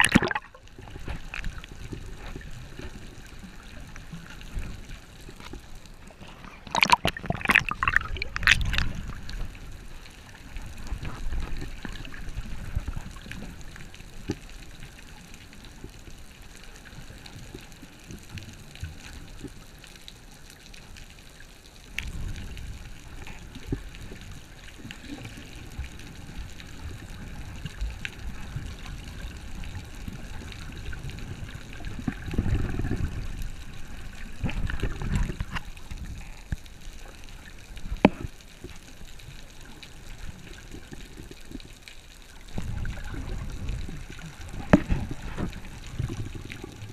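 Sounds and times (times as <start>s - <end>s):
muffled underwater sloshing: 0.0s - 46.9s.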